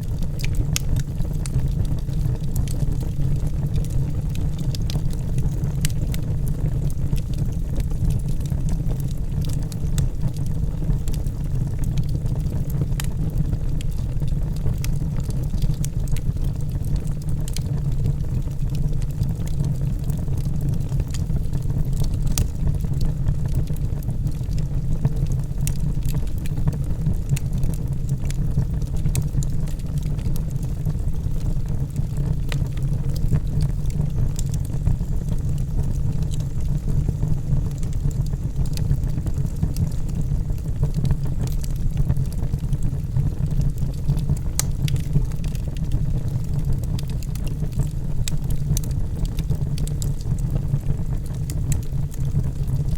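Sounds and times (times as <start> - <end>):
fire rumbling: 0.0 - 52.9
logs crackling and popping: 0.0 - 52.9.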